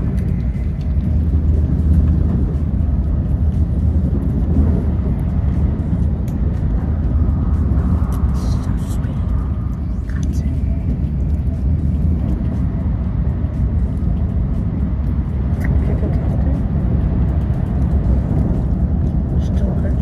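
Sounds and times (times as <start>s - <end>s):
train rumbling at speed: 0.0s - 20.0s.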